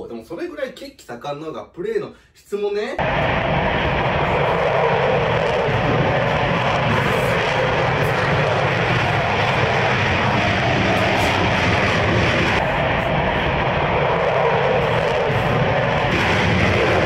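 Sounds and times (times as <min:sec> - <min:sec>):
jet engine fart sound: 0:03.0 - 0:17.0.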